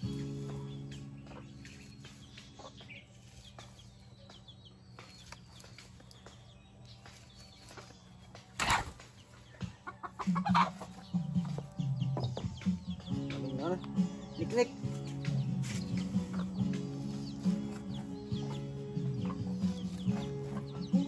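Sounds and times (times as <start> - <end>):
chicken clucking: 0.0 - 21.0.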